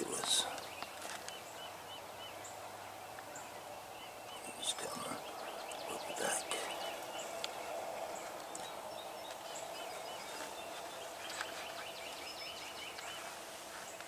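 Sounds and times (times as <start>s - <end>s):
steady background hiss: 0.0s - 14.0s
trilling bird calls: 0.0s - 14.0s.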